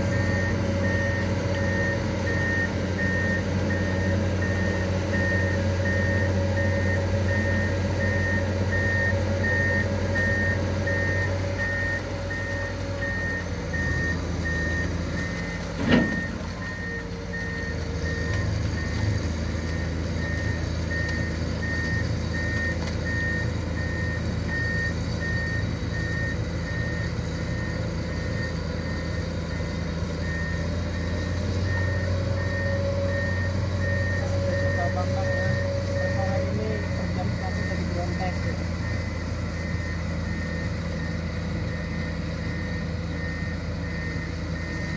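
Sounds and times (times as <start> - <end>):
diesel engine running: 0.0 - 44.9
travel alarm beeping: 0.1 - 19.1, 19.7 - 44.9.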